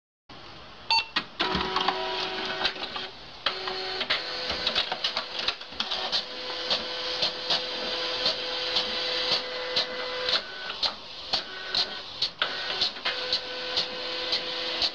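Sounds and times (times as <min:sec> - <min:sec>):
inkjet printer clicking and clacking: 0:01.4 - 0:14.9.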